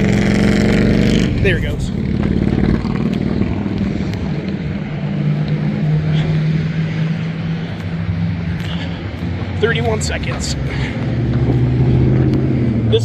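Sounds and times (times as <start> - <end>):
low engine drone: 0.0 - 13.0
vehicle engines running: 0.0 - 13.0.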